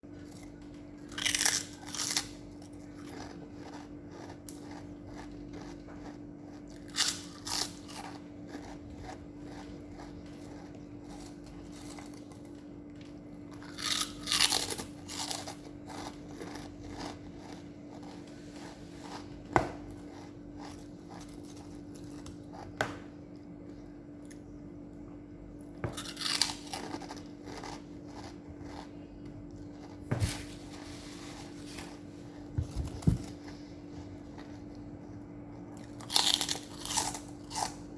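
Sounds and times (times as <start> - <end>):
crunchy food chewing: 0.1 - 37.9.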